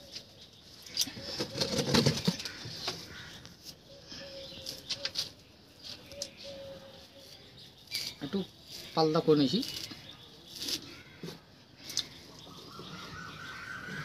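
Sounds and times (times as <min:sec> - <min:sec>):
dry fibre rustling and crackling: 0:00.9 - 0:13.2.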